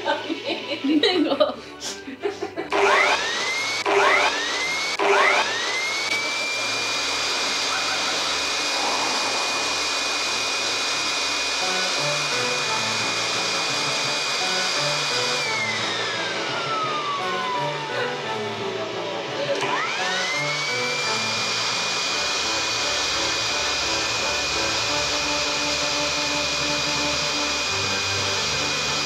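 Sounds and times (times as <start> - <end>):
background music: 0.0 - 4.4, 8.7 - 29.0
leaf blower motor whine: 2.7 - 29.0.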